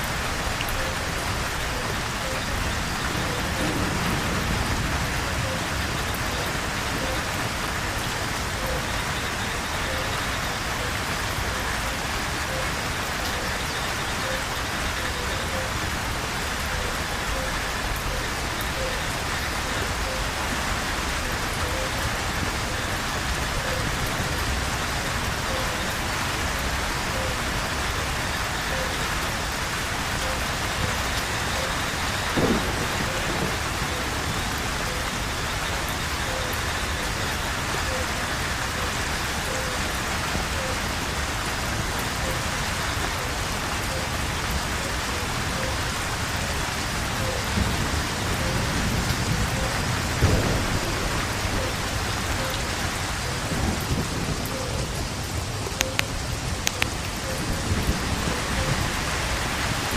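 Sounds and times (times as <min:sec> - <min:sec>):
rain falling on foliage: 0:00.0 - 0:59.9.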